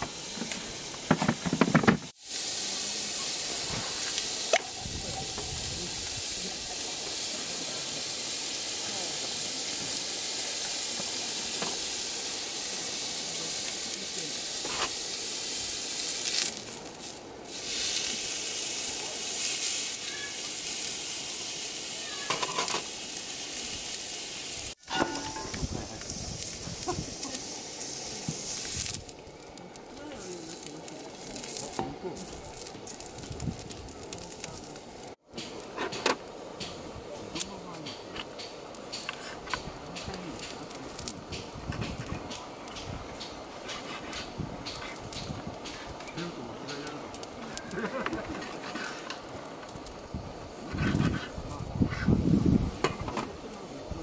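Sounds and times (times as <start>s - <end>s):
steak sizzling on a grill: 0.0s - 54.0s.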